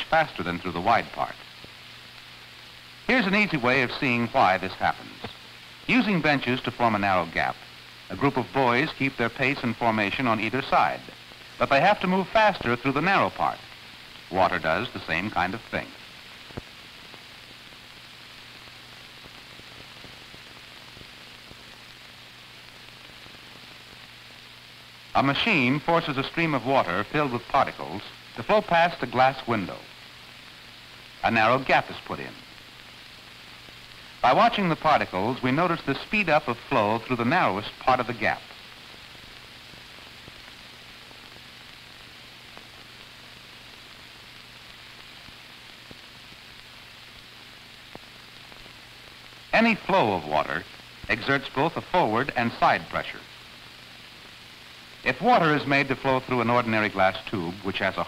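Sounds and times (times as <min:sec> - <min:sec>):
faint crackles: 0:00.0 - 0:58.0
film soundtrack hiss and hum: 0:00.0 - 0:58.0.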